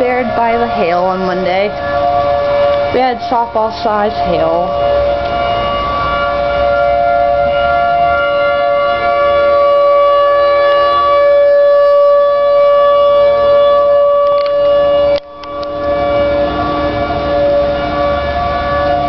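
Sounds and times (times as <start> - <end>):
tornado siren steady wail: 0.0 - 19.0.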